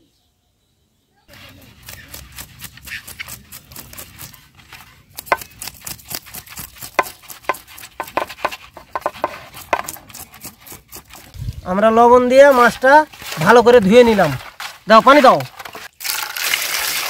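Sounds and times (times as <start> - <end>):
knife scraping fish scales: 1.3 - 11.4, 12.3 - 15.9.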